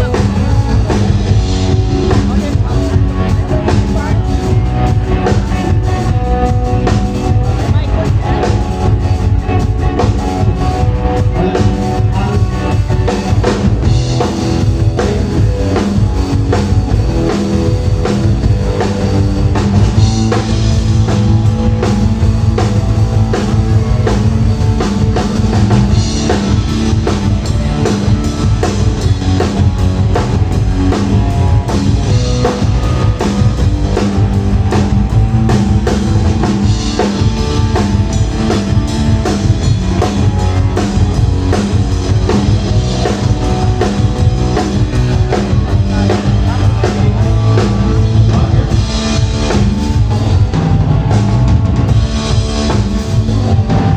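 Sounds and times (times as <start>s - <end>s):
drum kit beat: 0.0s - 53.9s
rock band playing live: 0.0s - 53.9s.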